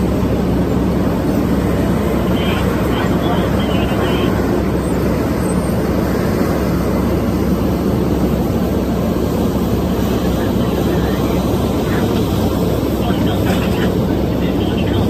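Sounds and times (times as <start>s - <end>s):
diesel excavator drone: 0.0s - 15.0s.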